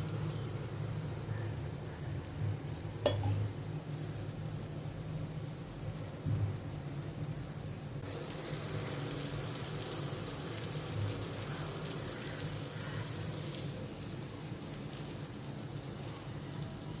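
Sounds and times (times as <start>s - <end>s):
prawns sizzling in oil: 0.0s - 17.0s.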